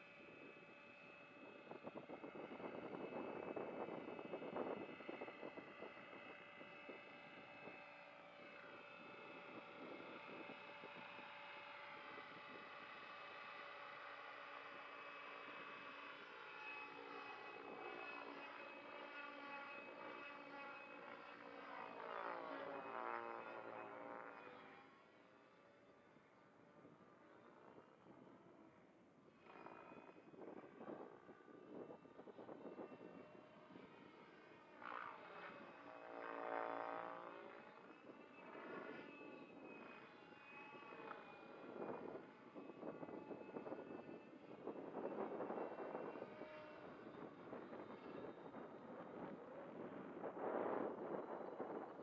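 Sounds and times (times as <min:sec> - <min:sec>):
model helicopter whine: 0:00.0 - 0:52.0.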